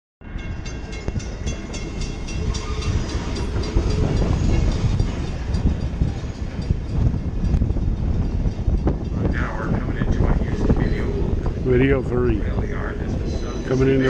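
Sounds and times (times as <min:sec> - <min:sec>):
train rumbling: 0:00.2 - 0:14.0.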